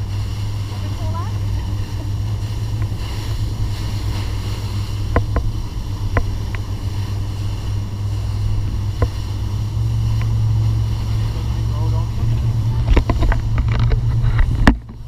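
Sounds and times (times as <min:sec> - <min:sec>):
motorboat engine rumbling: 0:00.0 - 0:15.0
wind on microphone: 0:00.0 - 0:15.0.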